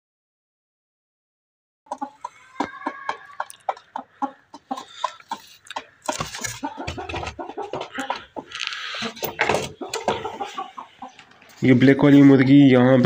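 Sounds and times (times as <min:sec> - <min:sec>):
chickens clucking: 0:01.9 - 0:13.0.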